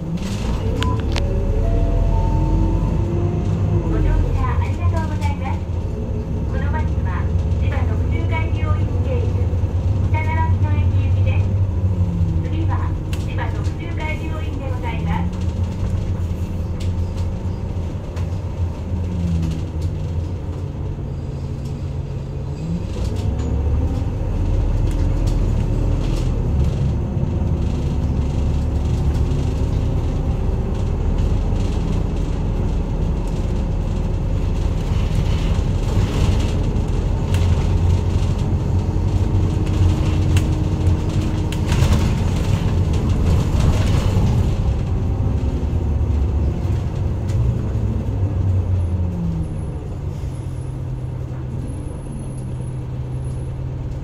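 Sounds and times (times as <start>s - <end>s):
bus diesel engine: 0.0s - 54.0s
road noise: 0.0s - 54.0s.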